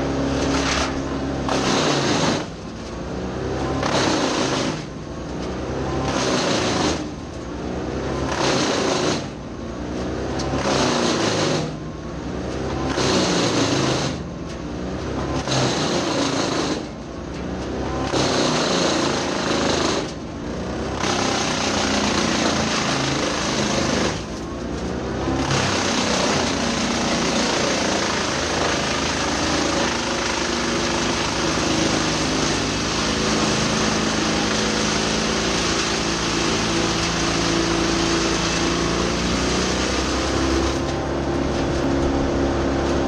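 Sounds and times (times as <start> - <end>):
tractor engine drone: 0.0 - 43.0
wood chipper chipping: 0.0 - 43.0.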